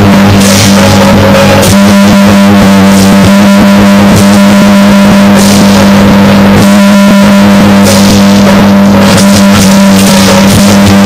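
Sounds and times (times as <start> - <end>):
loud background music: 0.0 - 11.0
steady low drone: 0.0 - 11.0.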